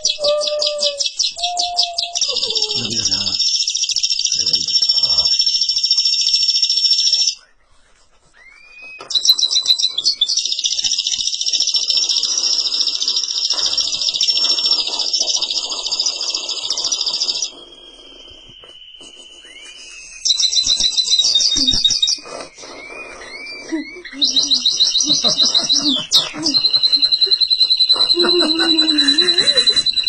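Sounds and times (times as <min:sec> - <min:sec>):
canary singing trills: 0:00.0 - 0:07.4, 0:08.4 - 0:30.0.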